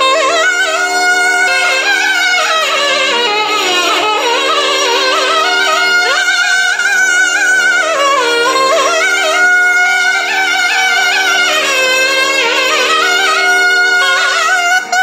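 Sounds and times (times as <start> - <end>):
double reed pipes playing melody: 0.0 - 15.0.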